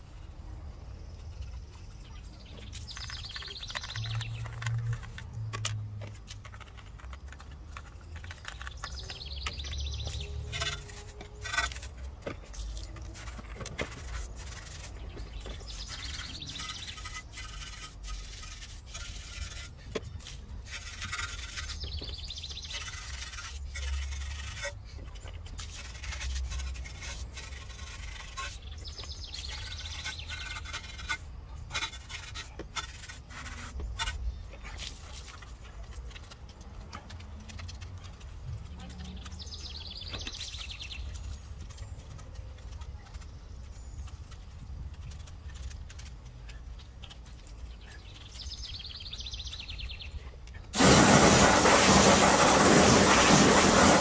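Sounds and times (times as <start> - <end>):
brushes scrubbing wet wheel: 2.5 - 44.4, 50.7 - 54.0.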